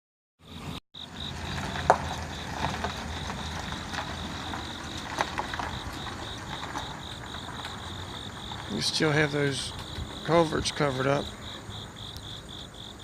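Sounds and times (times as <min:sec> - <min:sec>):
insects chirring: 0:00.5 - 0:13.0
low rumble of wind: 0:00.5 - 0:13.0.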